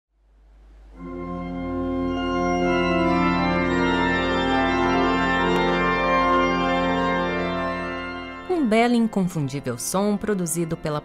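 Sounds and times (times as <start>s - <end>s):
pipe organ chords: 0.9s - 11.0s.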